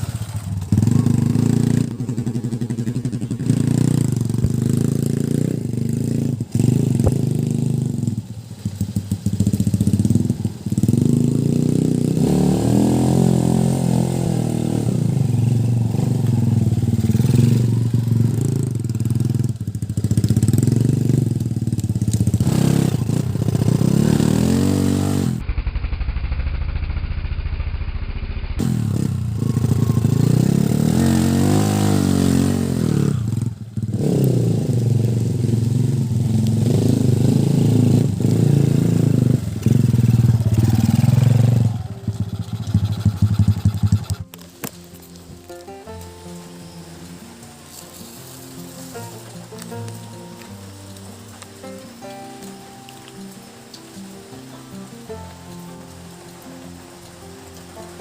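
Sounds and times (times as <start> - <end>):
motorcycle engine revving: 0.0 - 51.8.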